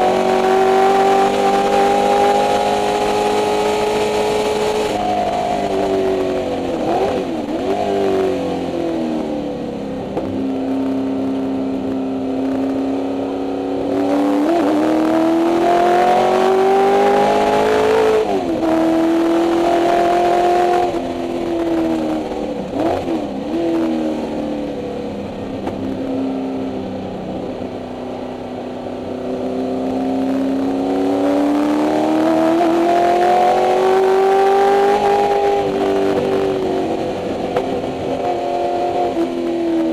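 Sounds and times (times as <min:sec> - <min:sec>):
race engine revving: 0:00.0 - 0:09.3, 0:10.0 - 0:27.8, 0:29.2 - 0:39.9.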